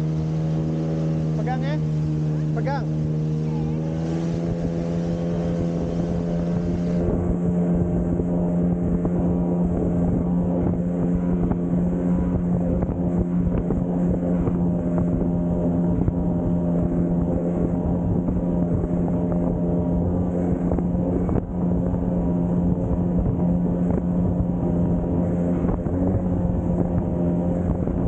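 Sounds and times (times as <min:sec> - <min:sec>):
jet ski engine drone: 0:00.0 - 0:28.0
rushing water: 0:00.0 - 0:28.0
wind noise on microphone: 0:03.0 - 0:28.0.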